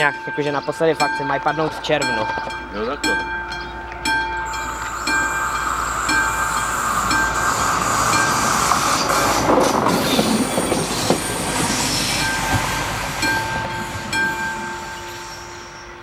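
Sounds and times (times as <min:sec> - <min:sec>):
diesel railcar passing: 0:00.0 - 0:16.0
wheels clattering and squealing: 0:00.0 - 0:16.0.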